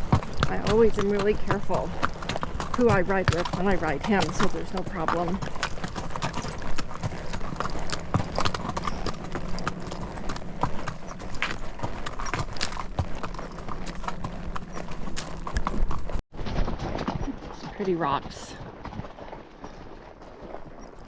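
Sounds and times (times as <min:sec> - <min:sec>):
horse hooves on rocky trail: 0:00.0 - 0:21.0.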